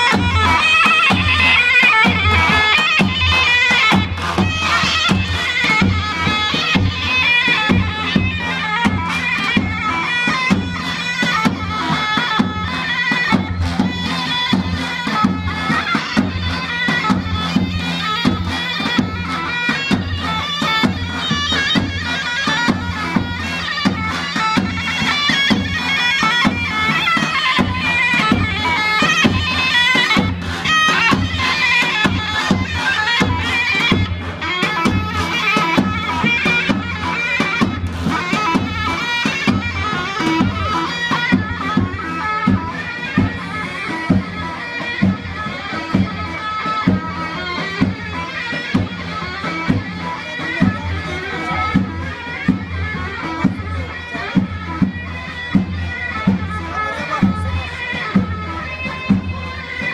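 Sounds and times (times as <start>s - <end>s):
drum beat: 0.0s - 59.9s
shrill reed wind instrument melody: 0.0s - 59.9s.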